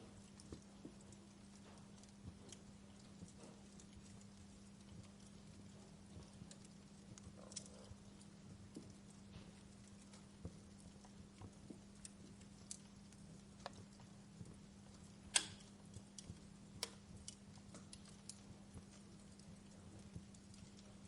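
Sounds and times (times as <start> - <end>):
faint steady hiss and hum: 0.0 - 21.0
log fire crackling: 0.0 - 21.0.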